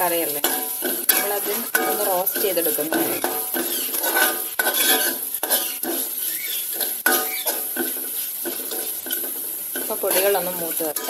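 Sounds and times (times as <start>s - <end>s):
oil sizzling: 0.0s - 11.0s
metal spoon scraping pan: 0.2s - 11.0s.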